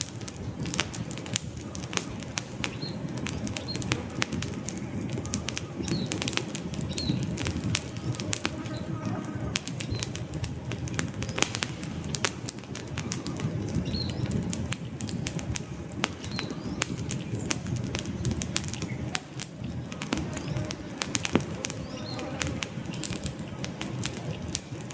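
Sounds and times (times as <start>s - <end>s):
fire flames rumbling: 0.0s - 24.9s
logs crackling and popping: 0.0s - 24.9s.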